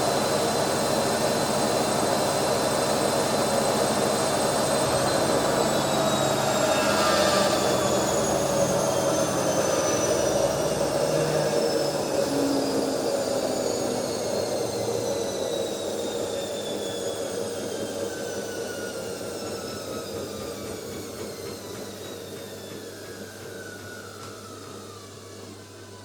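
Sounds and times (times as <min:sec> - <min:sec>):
drain pump whine: 0:00.0 - 0:26.0.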